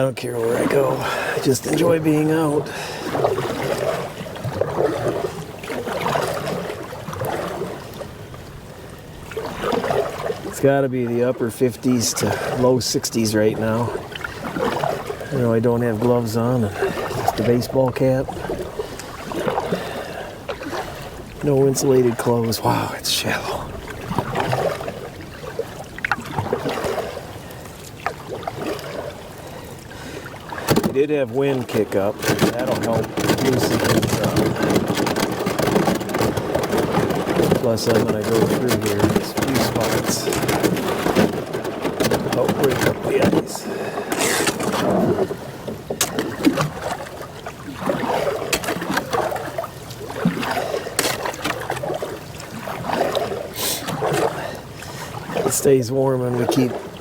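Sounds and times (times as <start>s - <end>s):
paddle strokes in water: 0.0s - 57.0s
trickling water: 0.0s - 57.0s
ice cracking against canoe hull: 0.3s - 8.4s, 9.3s - 27.2s, 30.0s - 57.0s.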